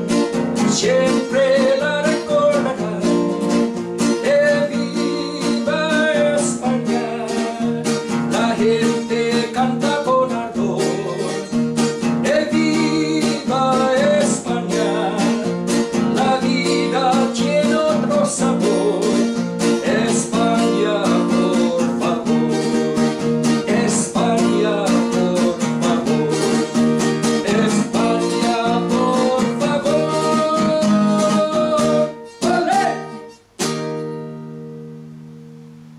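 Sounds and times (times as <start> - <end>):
acoustic guitar strummed fast: 0.0 - 35.9.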